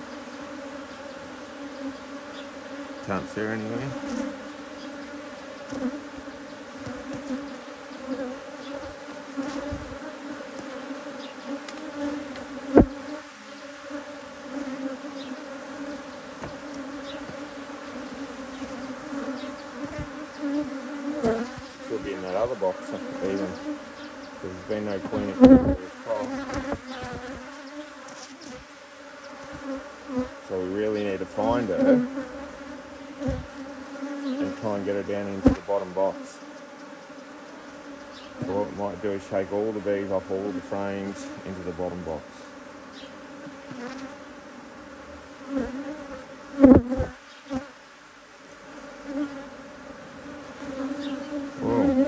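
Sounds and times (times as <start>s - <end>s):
honey bees buzzing: 0.0s - 52.0s
single bees passing close: 0.0s - 52.0s.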